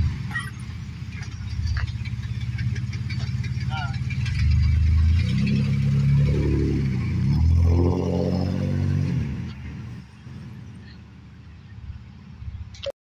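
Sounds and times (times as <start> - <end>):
van engine revving: 0.0 - 11.0.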